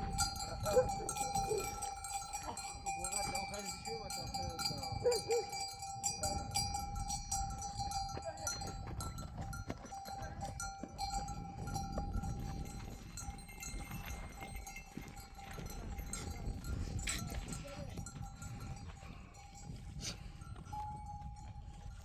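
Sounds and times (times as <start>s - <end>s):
animal bells clanking: 0.0s - 22.0s.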